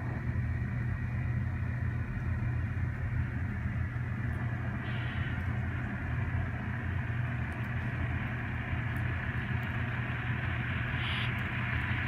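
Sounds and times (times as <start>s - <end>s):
model train diesel engine sound: 0.0s - 12.0s.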